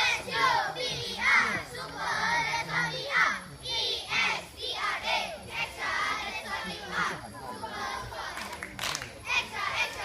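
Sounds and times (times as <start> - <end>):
children singing: 0.0 - 8.4.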